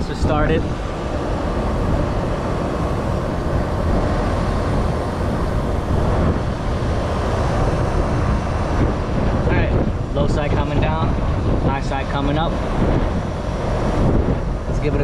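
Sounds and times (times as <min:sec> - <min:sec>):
heat pump compressor and fan running: 0:00.0 - 0:15.0.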